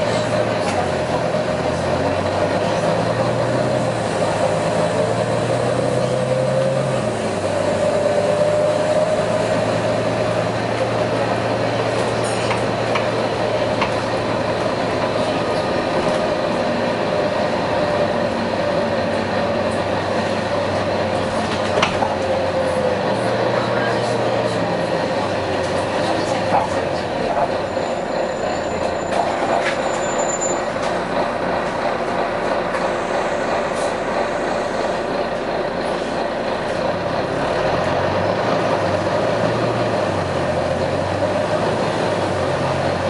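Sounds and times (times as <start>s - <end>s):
diesel bus engine running: 0.0s - 43.0s.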